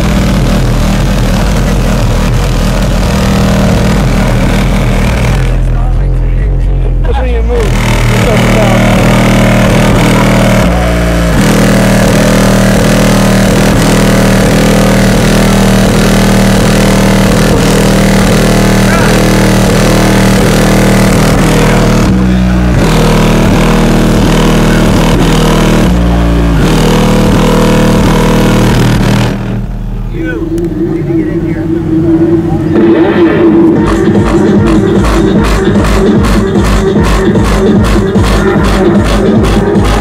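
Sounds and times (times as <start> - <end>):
bass-heavy music from car speakers: 0.0 - 40.0.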